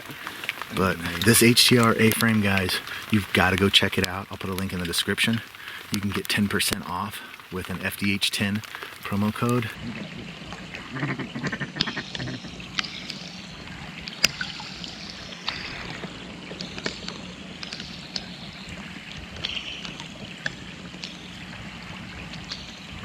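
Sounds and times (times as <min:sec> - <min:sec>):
raindrops ticking near microphone: 0:00.0 - 0:23.0
steady rain: 0:00.0 - 0:23.0.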